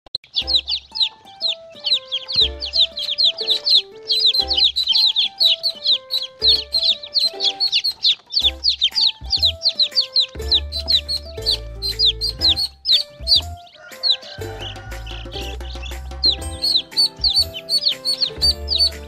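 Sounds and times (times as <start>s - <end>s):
baby chicks peeping: 0.1s - 19.0s
background music with bass notes: 0.3s - 19.0s.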